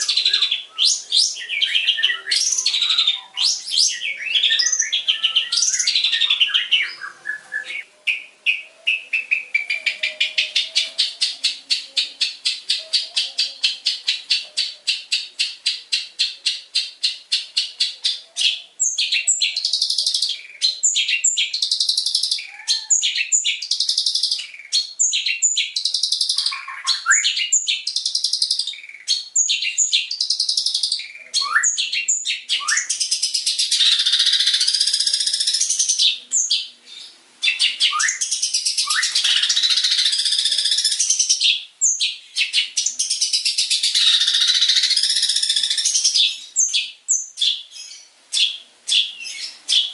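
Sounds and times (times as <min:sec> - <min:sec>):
bird chattering song: 0:00.0 - 0:49.9.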